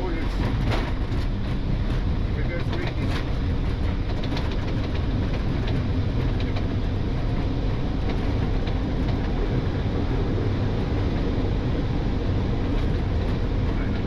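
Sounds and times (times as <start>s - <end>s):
airliner cockpit rumble and rattle: 0.0s - 14.0s.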